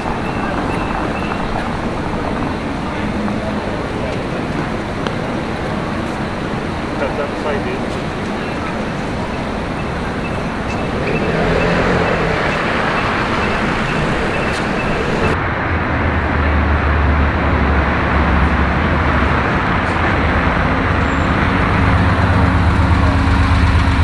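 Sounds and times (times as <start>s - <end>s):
vehicle engine rumble: 0.0s - 15.4s, 18.4s - 24.0s
street traffic noise: 0.0s - 24.0s.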